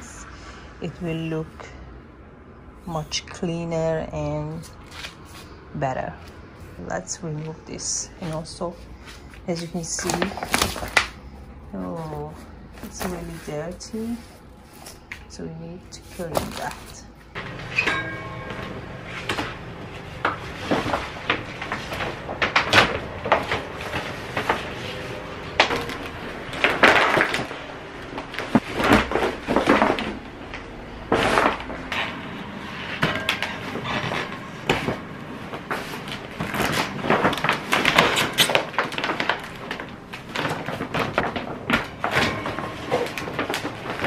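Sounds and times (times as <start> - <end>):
plastic sheeting crinkling: 7.8 - 44.0.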